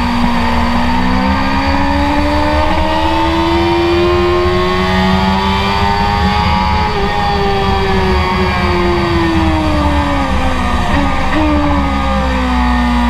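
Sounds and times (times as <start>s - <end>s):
motorcycle engine accelerating hard: 0.0s - 13.0s.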